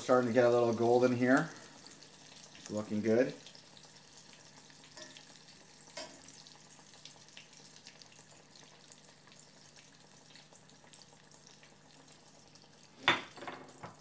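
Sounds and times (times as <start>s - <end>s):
mushrooms deep-frying in oil: 0.0s - 14.0s.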